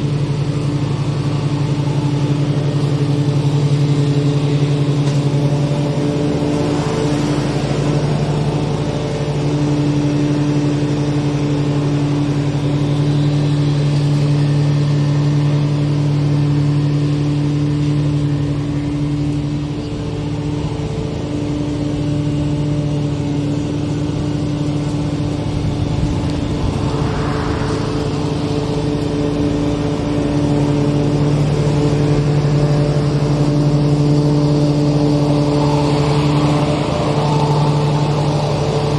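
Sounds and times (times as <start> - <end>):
lawn mower engine cutting grass: 0.0 - 38.9.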